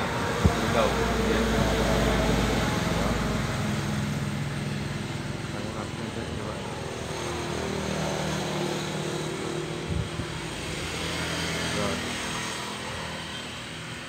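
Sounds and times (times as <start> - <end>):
engine-like drone: 0.0 - 14.0.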